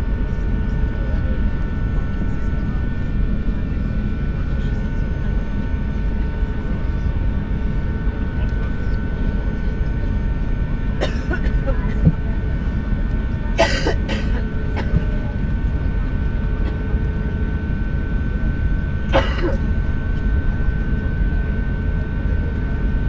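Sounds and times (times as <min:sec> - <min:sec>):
aircraft cabin rumble: 0:00.0 - 0:23.0
jet engine whine: 0:00.0 - 0:23.0.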